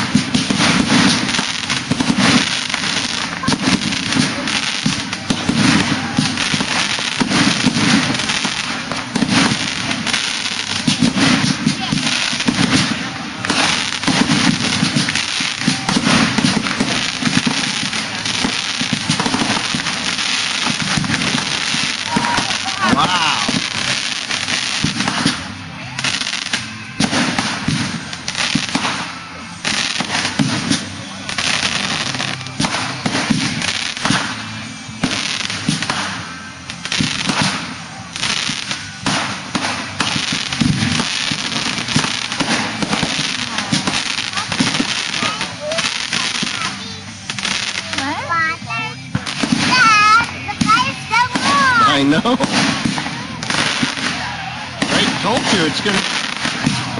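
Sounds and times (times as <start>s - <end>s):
fireworks popping and banging: 0.0s - 56.9s.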